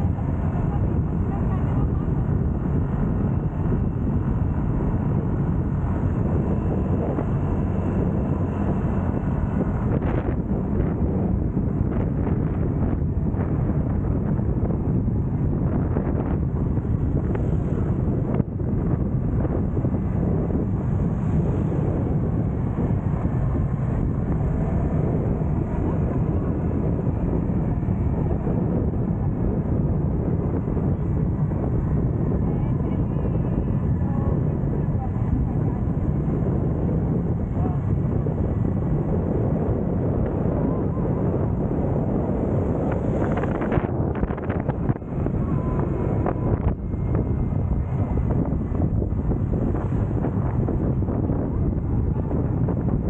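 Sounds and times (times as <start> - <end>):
scooter engine and road noise: 0.0 - 53.0
wind buffeting microphone: 0.0 - 53.0.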